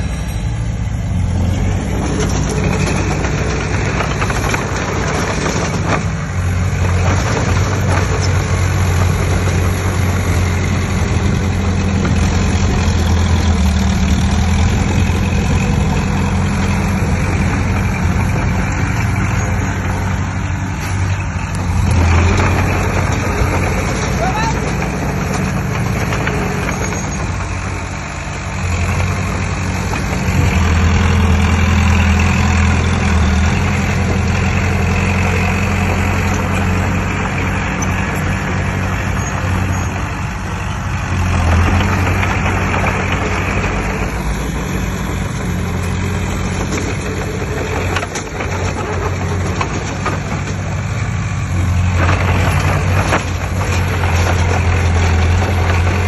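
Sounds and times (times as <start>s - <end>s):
diesel engine working under load: 0.0s - 56.0s.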